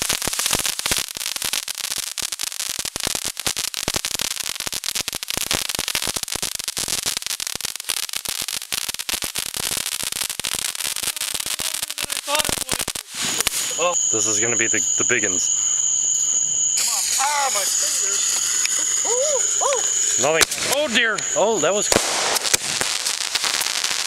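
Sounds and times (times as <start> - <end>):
firework fountain crackling hiss: 0.0 - 24.0.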